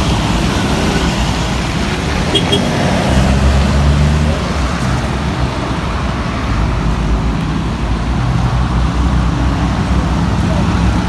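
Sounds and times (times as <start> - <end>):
steady road noise: 0.0 - 11.0
vehicle engine rumbling: 0.0 - 11.0.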